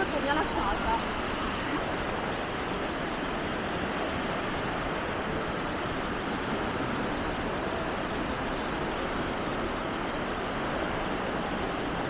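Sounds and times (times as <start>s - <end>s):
steady outdoor rushing noise: 0.0s - 12.0s.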